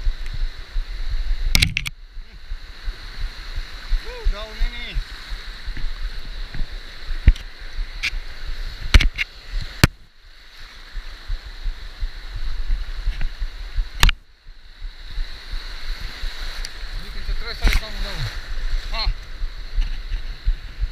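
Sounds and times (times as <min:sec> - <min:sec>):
shallow surf washing and foaming: 0:00.0 - 0:20.9.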